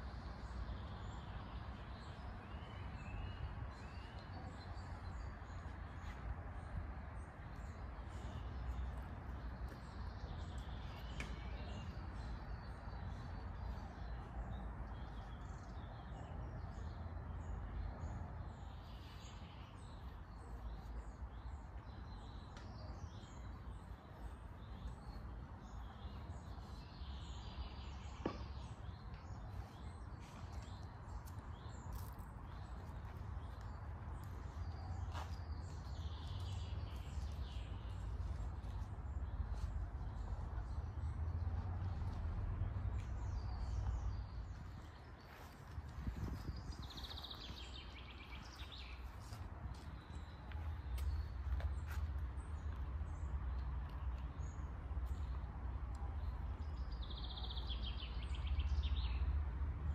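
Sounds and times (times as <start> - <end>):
songbirds chirping and singing: 0.0 - 59.3.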